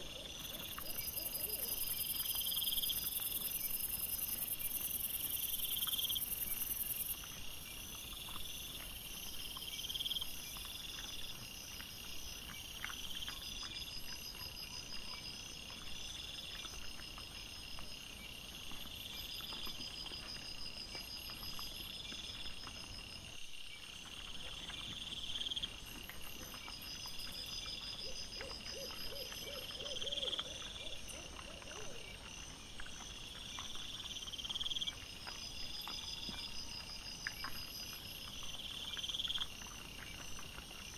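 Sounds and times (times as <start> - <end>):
faint ticks and rustles: 0.0 - 40.9
night insects chirping: 0.0 - 40.9.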